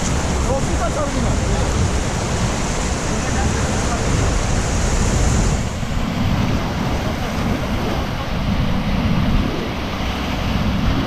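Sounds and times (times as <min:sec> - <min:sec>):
river rapids roaring: 0:00.0 - 0:11.0
wind buffeting microphone: 0:00.0 - 0:11.0.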